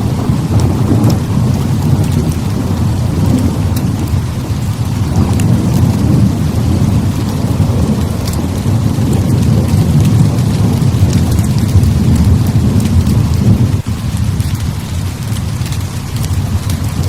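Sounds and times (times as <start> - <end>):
heavy rain falling: 0.0 - 17.0
low rumble of thunder: 0.0 - 17.0.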